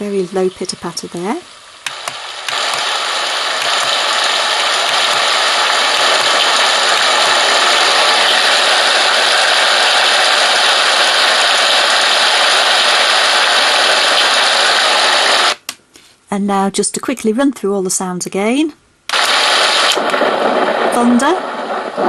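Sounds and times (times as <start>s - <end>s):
recorded rain through small speaker: 0.0s - 15.6s, 16.9s - 22.0s.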